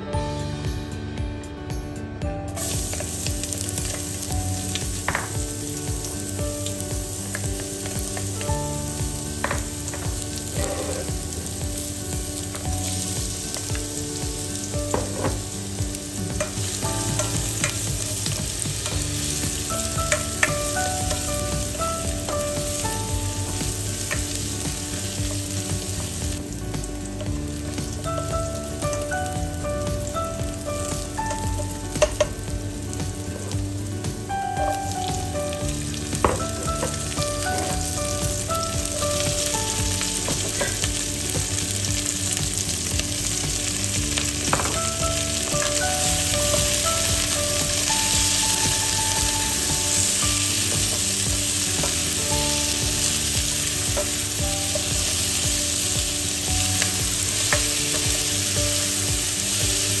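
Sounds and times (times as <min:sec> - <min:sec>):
vegetables sizzling in hot oil: 0:02.6 - 1:00.0.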